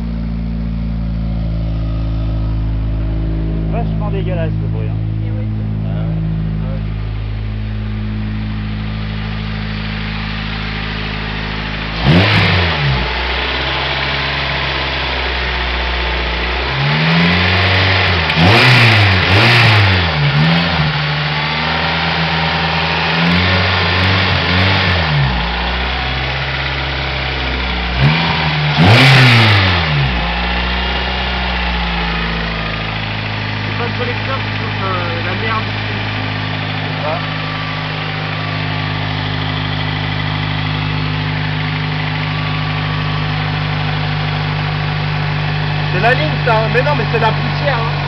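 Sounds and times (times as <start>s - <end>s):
car engine idling: 0.0s - 48.0s
car engine revving: 0.0s - 48.0s.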